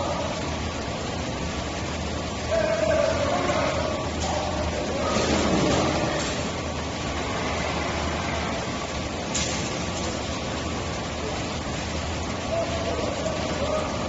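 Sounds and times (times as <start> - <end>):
industrial furnace hum: 0.0 - 14.0.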